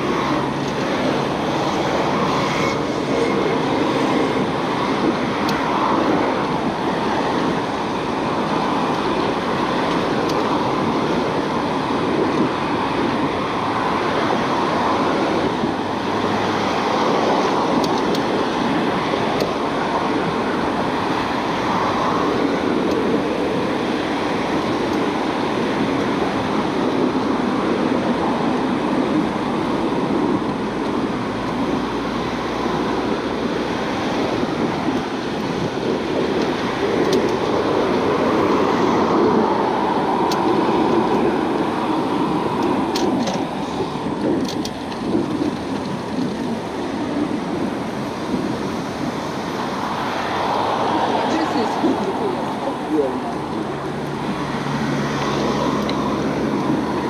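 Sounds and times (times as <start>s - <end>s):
passing car traffic: 0.0s - 57.0s
wind on microphone: 0.0s - 57.0s.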